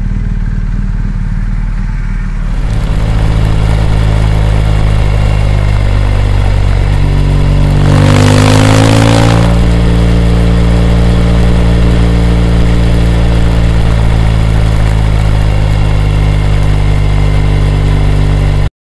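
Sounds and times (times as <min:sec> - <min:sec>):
motorcycle engine revving: 0:00.0 - 0:18.7.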